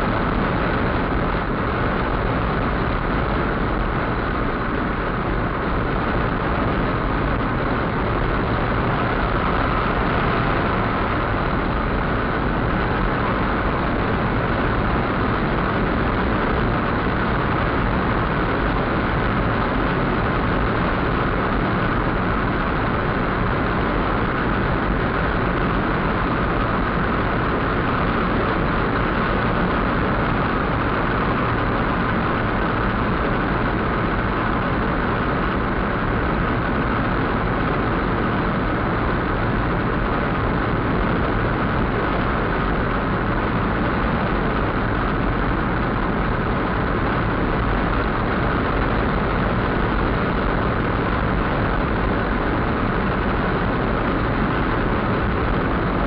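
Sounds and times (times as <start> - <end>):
car cabin road and engine noise: 0.0 - 56.0.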